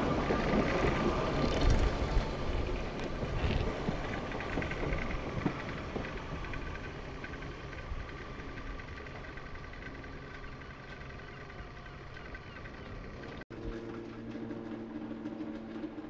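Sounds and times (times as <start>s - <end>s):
electric train rumbling on rails: 0.0s - 16.0s.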